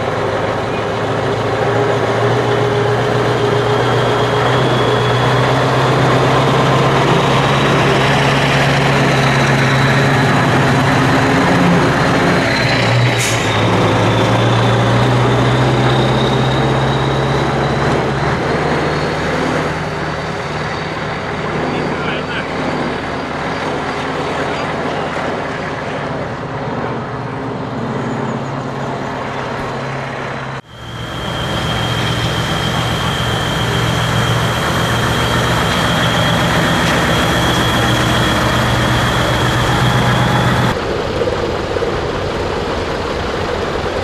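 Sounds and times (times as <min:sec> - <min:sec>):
diesel truck engine driving by: 0:00.0 - 0:44.0.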